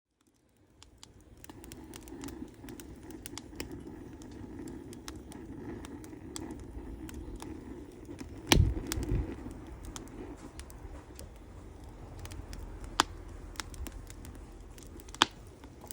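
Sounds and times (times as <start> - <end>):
campfire crackling and popping: 0.1 - 15.9
campfire low rumble: 0.1 - 15.9.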